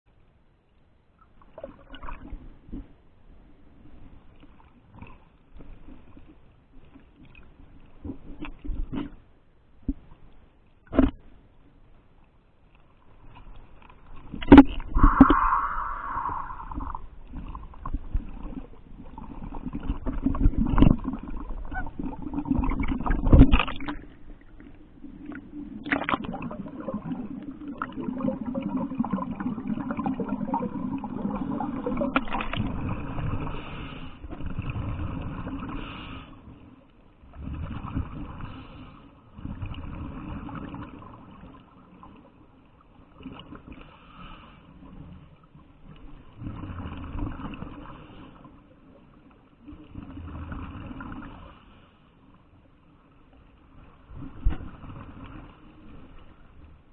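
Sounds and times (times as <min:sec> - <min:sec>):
muffled water sloshing and gurgling: 0:01.0 - 0:56.9.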